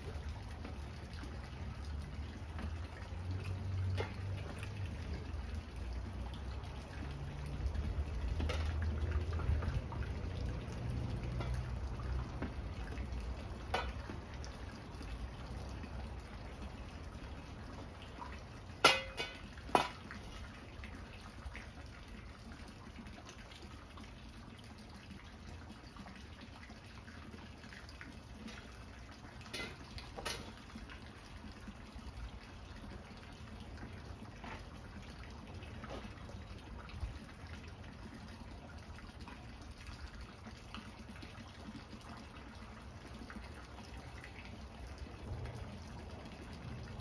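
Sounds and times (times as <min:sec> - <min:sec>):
low steady rumble: 0:00.0 - 0:26.0, 0:27.2 - 0:47.0
water splashing in a plastic tub: 0:00.0 - 0:47.0.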